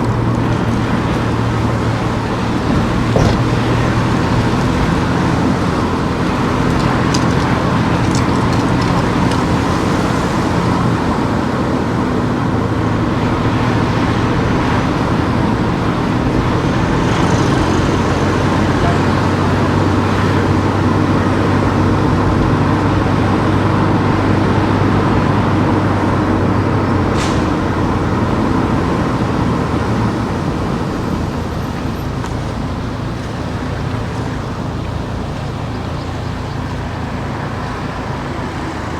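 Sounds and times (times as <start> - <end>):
car engine hum: 0.0 - 38.9
tyre and road noise: 0.0 - 38.9.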